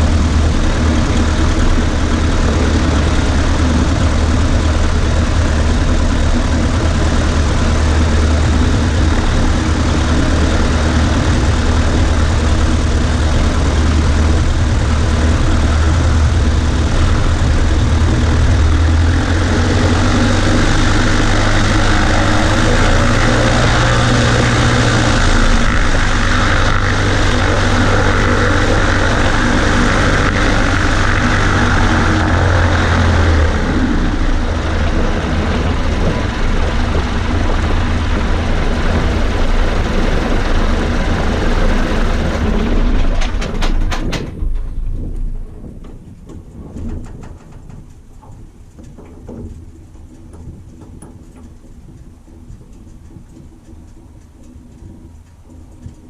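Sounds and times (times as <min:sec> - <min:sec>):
small plane engine and propeller: 0:00.0 - 0:56.0.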